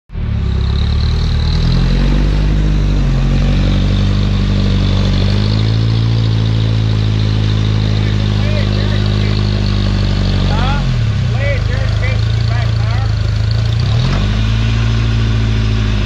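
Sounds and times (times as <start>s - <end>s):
engine revving under load: 0.1s - 16.0s.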